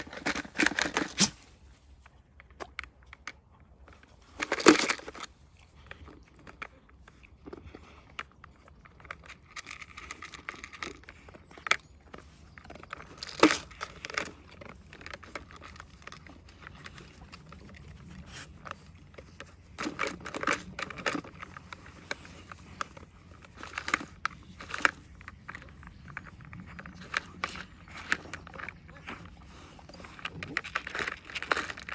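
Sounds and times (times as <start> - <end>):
plastic toy clicks and rattles: 0.0 - 1.4, 2.6 - 5.3, 8.7 - 31.9
crunching: 0.0 - 31.9.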